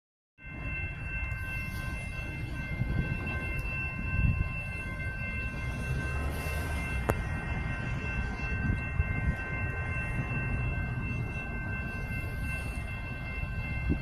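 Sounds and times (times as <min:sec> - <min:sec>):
high-pitched multi-tone whine: 0:00.4 - 0:14.0
train low rumble: 0:00.4 - 0:14.0.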